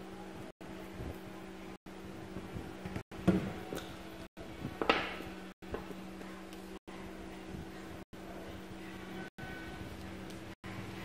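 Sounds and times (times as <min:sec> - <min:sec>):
low hum with hiss: 0:00.0 - 0:11.0.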